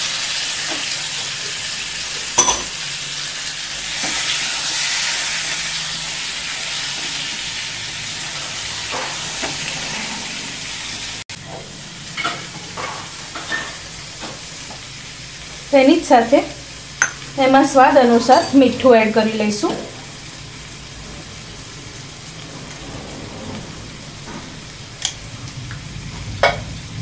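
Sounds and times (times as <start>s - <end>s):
food sizzling in hot oil: 0.0s - 22.8s.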